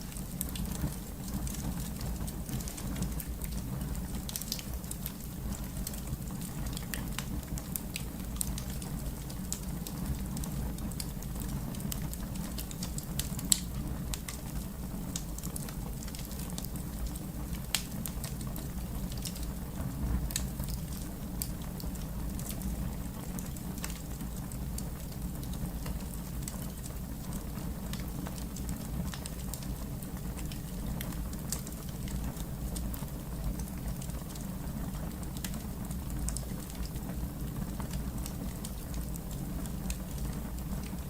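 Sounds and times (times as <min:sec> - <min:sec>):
fire crackling: 0:00.0 - 0:41.0
pops and snaps of fire: 0:00.1 - 0:19.6, 0:20.3 - 0:41.0.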